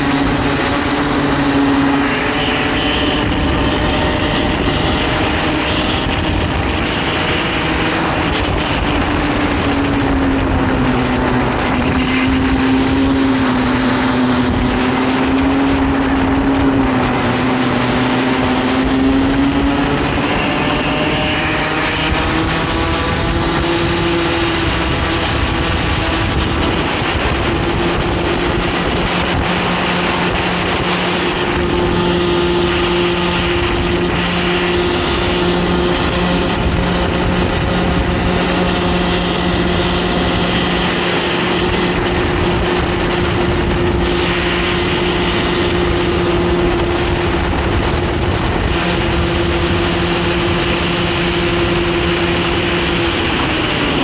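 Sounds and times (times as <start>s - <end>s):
kart engine at high revs: 0.0s - 54.0s.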